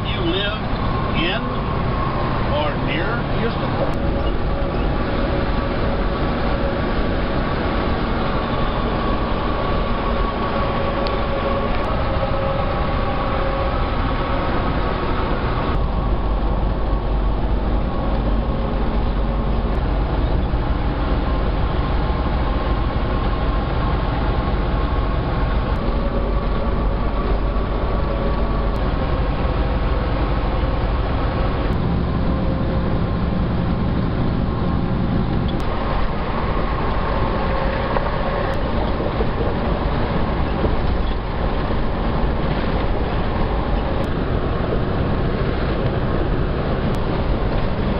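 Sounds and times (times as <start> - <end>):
road rumble: 0.0 - 47.9
truck engine drone: 0.0 - 47.9.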